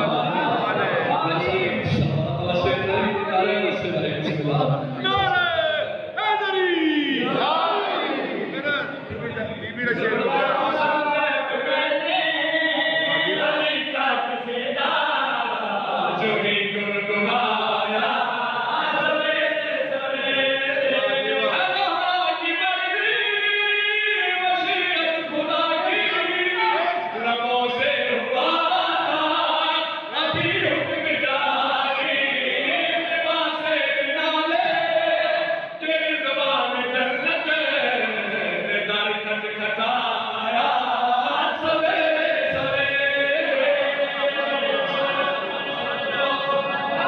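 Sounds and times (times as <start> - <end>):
man chanting into a microphone: 0.0 - 7.4, 8.5 - 46.7.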